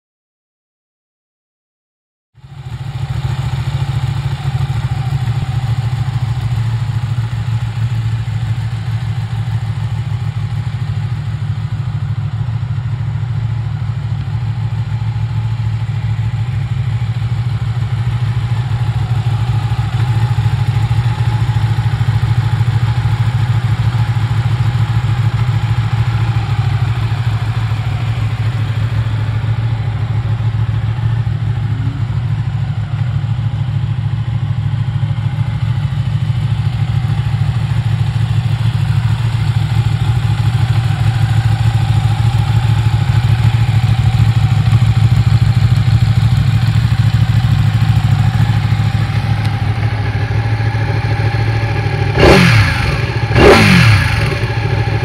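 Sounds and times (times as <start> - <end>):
motorcycle engine idling: 2.4 - 55.0.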